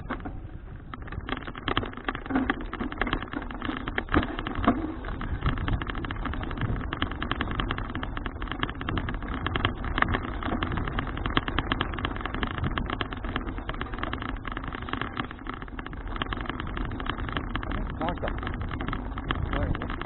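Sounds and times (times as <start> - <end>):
bicycle rattling clicks: 0.0 - 20.0
wind and road rumble: 0.0 - 20.0.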